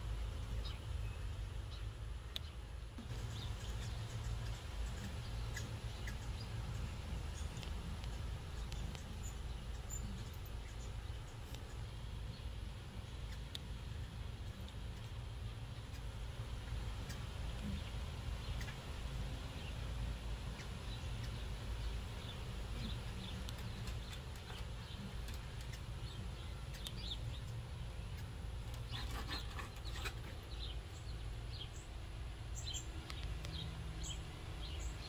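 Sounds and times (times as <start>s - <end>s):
low outdoor rumble: 0.0s - 35.0s
small birds chirping: 0.0s - 35.0s.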